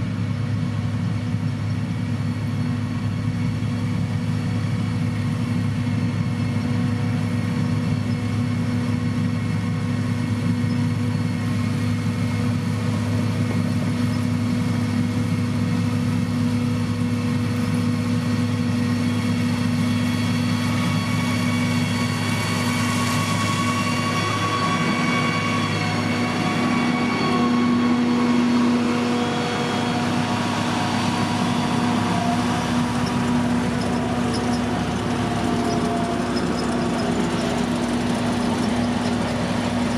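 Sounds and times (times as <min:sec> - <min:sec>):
heavy machinery engine humming: 0:00.0 - 0:39.9.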